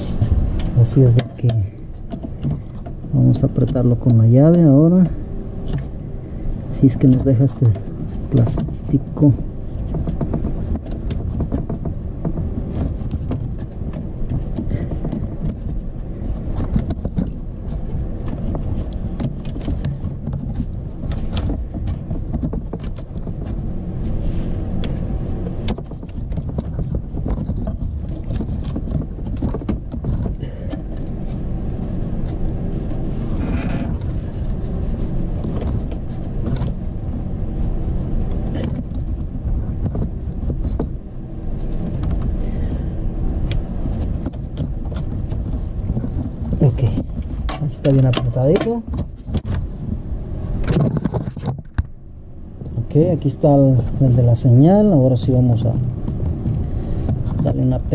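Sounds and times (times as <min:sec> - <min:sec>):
low rumble: 0:00.0 - 0:57.9.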